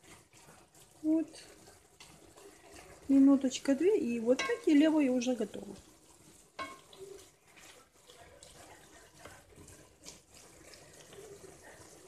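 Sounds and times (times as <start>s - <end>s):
mushrooms sizzling in a frying pan: 0.0s - 12.0s
spatula stirring: 0.0s - 12.0s.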